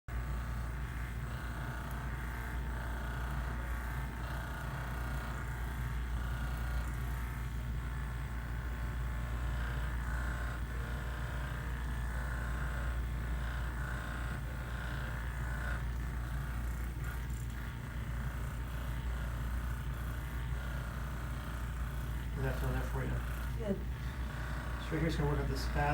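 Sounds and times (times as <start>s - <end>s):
steady low hum: 0.1s - 25.9s.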